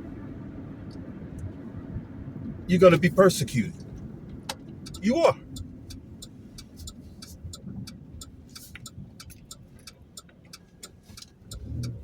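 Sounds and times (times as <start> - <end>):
road and engine rumble: 0.0 - 12.0
turn signal ticking: 0.0 - 12.0.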